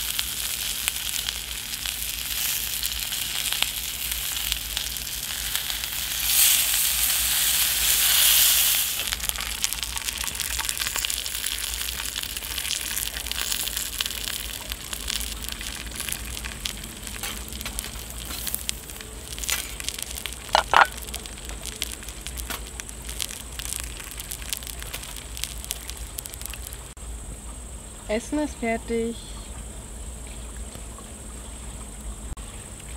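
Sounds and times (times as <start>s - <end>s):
lobster sizzling in a pan: 0.0s - 27.0s
wood fire crackling: 0.0s - 27.0s.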